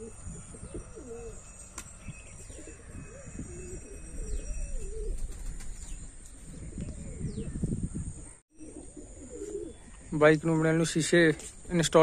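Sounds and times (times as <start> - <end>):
pigeons cooing: 0.0 - 10.1.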